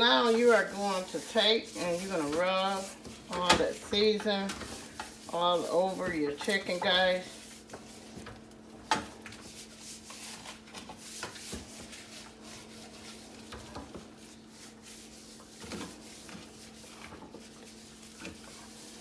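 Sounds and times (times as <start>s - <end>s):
hands rubbing raw chicken: 0.0s - 19.0s.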